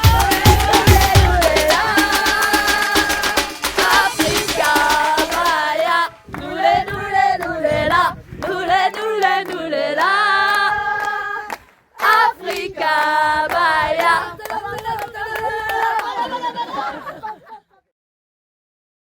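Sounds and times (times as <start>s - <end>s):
group singing without instruments: 0.0s - 17.4s.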